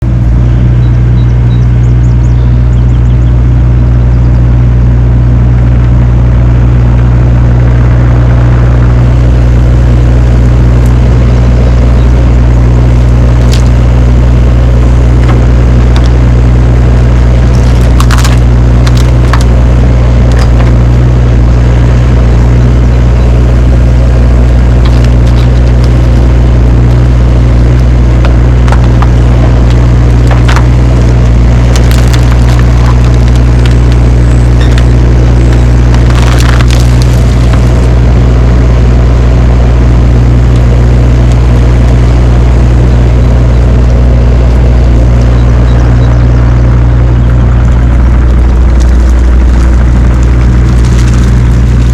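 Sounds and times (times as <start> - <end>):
excavator diesel engine running: 0.0 - 51.9
vines and debris cracking: 8.8 - 51.9.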